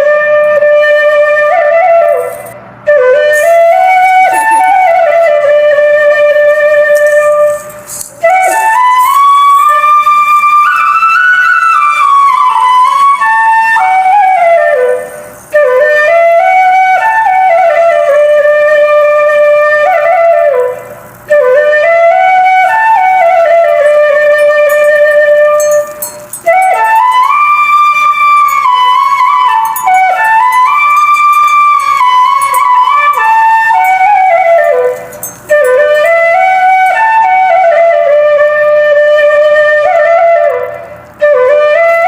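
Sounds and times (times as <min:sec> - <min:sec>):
flute melody: 0:00.0 - 0:42.0.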